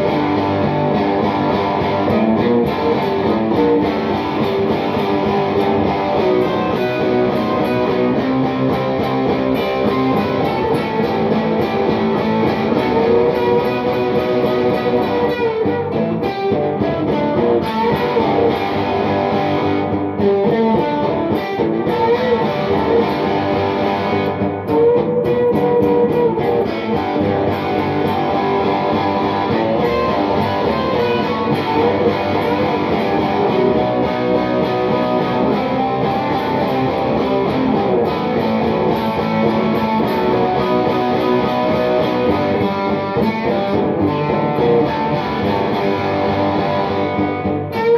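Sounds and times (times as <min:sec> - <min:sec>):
electric guitar with bent notes: 0:00.0 - 0:47.9.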